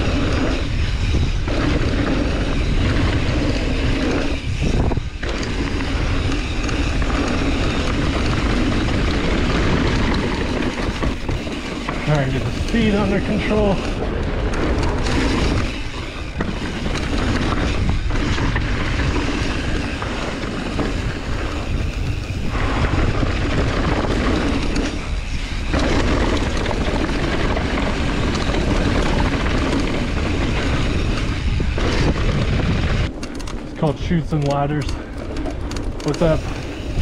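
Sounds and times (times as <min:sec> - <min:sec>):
mountain bike rattling: 0:00.0 - 0:37.0
tyres on rough dirt trail: 0:00.0 - 0:37.0
wind buffeting microphone: 0:00.0 - 0:37.0.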